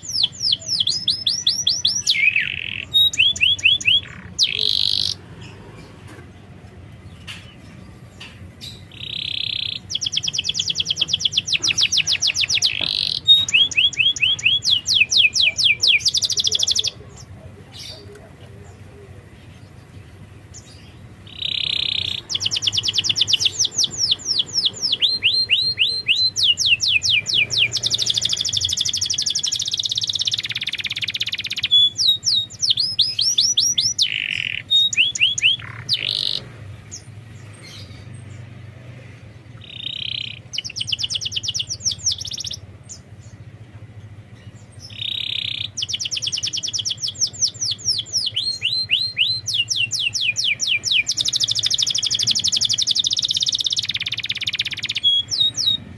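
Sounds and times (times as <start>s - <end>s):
canary singing: 0.0s - 55.9s.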